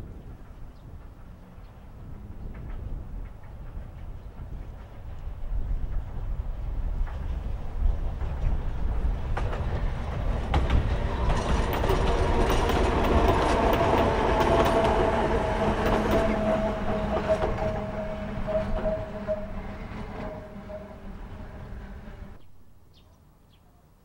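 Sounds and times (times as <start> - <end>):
train low rumble: 0.0 - 23.1
wheels clicking over rail joints: 2.4 - 22.2.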